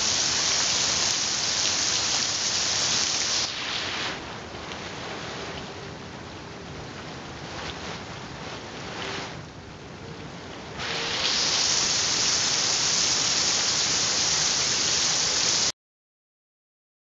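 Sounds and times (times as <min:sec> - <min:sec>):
heavy rain splashing into water: 0:00.0 - 0:15.7.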